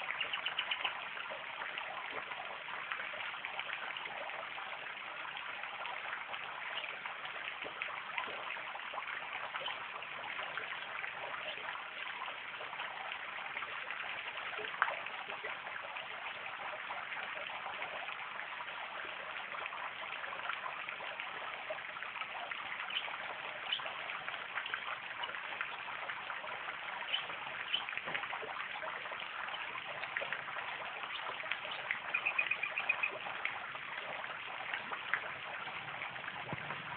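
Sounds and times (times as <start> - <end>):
fountain water splashing: 0.0 - 36.9.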